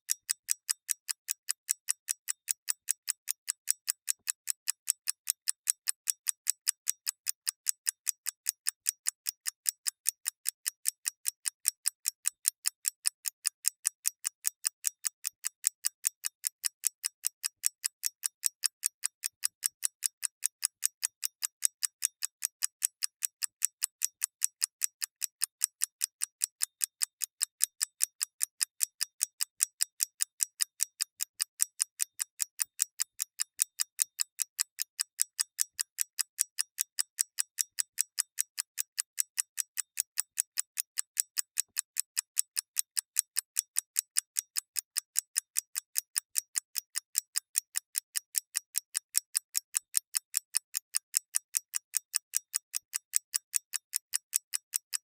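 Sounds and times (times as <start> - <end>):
mechanical clock ticking: 0.1 - 55.0.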